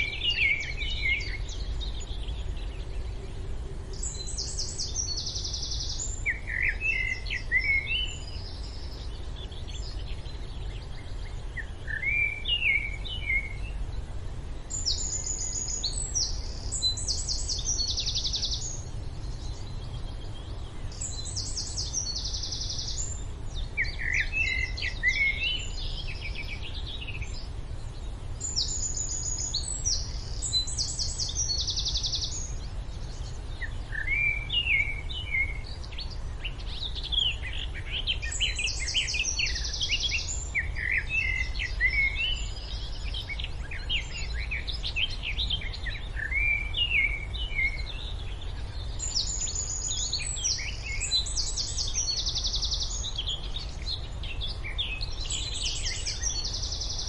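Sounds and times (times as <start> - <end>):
birds chirping and singing: 0.0 - 57.0
low background rumble: 0.0 - 57.0.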